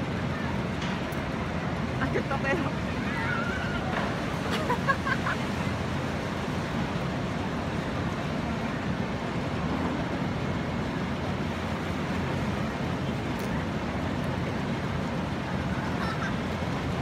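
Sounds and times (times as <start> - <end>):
churning water rushing: 0.0 - 17.0.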